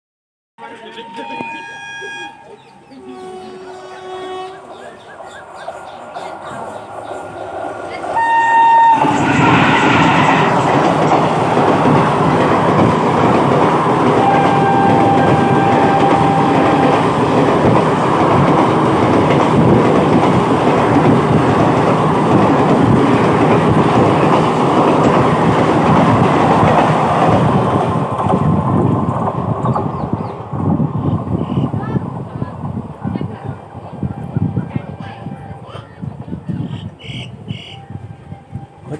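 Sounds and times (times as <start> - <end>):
train rushing past: 0.6 - 38.9.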